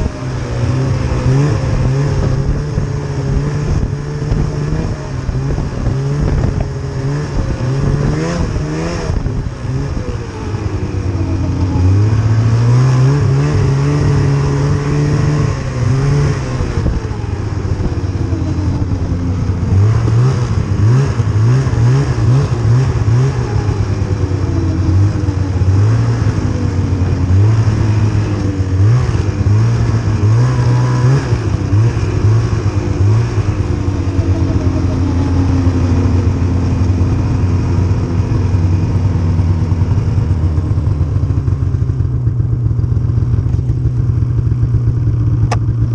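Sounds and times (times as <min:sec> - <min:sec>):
snowmobile engine revving: 0:00.0 - 0:43.9.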